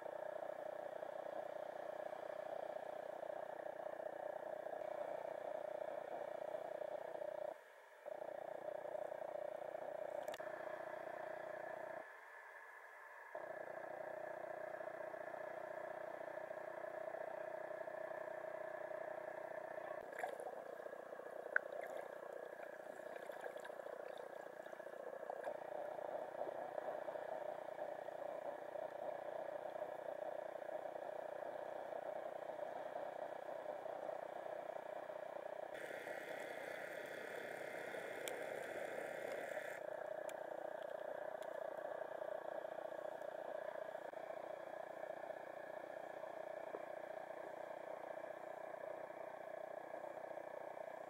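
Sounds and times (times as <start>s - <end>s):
muffled surf underwater: 0.0s - 51.0s
faint ticks: 0.1s - 10.7s, 13.3s - 51.0s.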